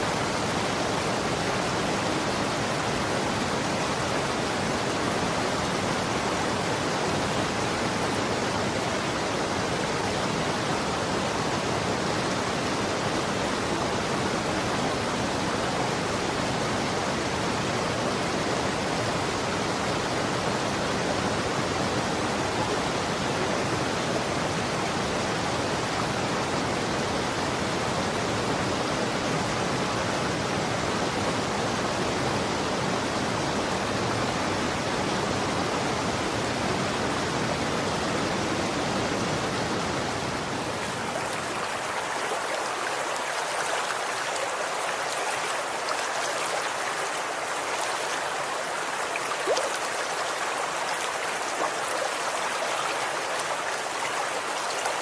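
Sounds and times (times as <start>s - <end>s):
running water rushing: 0.0s - 31.9s, 32.5s - 55.0s.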